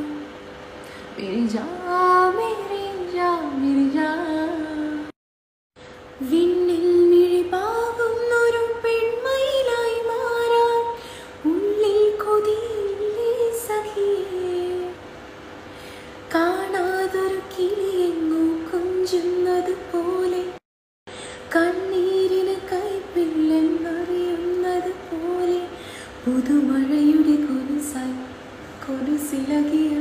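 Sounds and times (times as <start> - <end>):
woman singing unaccompanied: 1.2 - 5.1, 6.2 - 15.0, 16.3 - 20.6, 21.5 - 30.0.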